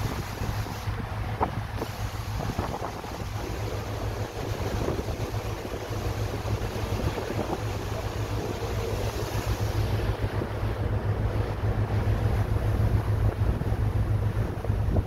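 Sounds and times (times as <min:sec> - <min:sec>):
rush of lake water: 0:00.0 - 0:15.0
wind buffeting microphone: 0:00.0 - 0:15.0.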